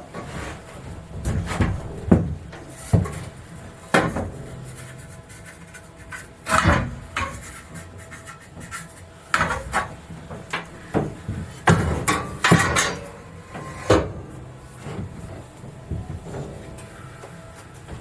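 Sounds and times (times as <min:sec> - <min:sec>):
knocks clunks and scrapes: 0:00.0 - 0:18.0.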